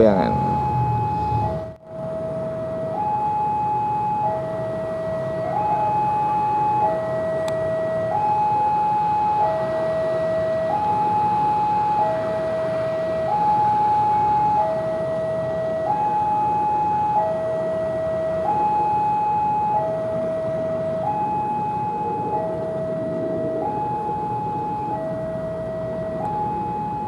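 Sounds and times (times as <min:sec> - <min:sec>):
two-tone crossing alarm: 0:00.0 - 0:27.0.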